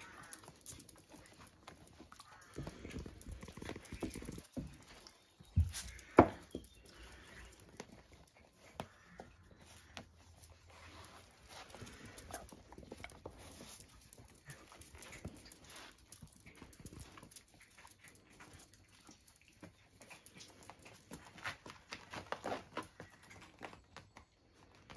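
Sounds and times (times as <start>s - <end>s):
puppies scuffling: 0.0s - 24.9s.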